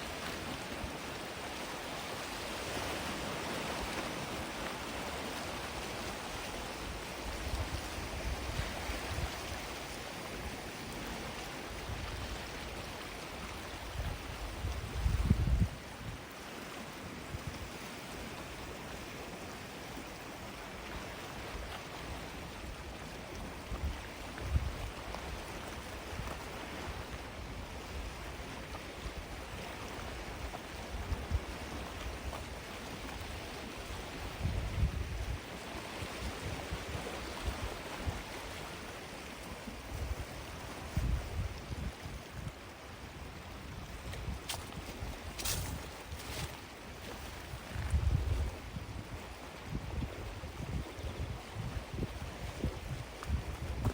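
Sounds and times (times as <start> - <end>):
waves washing onto beach: 0.0 - 53.9.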